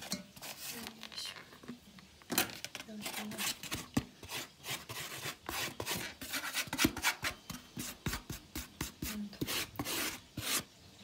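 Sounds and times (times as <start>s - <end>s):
metal spoon scraping plastic tray: 0.0s - 1.7s, 2.3s - 10.7s.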